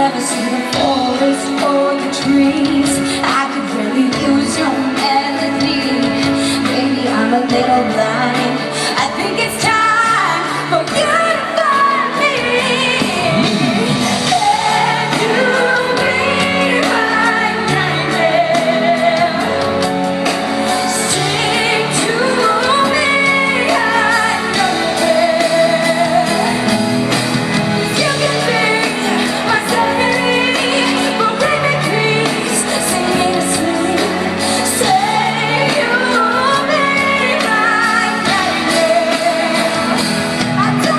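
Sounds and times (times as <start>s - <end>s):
keyboard and band chords: 0.0s - 40.9s
woman singing pop ballad: 0.0s - 40.9s.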